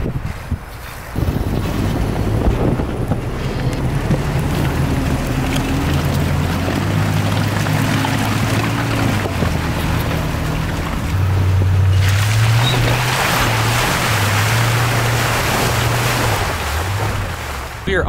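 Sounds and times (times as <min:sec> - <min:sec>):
pickup truck engine at low revs: 0:00.0 - 0:17.9
second truck engine: 0:00.8 - 0:17.8.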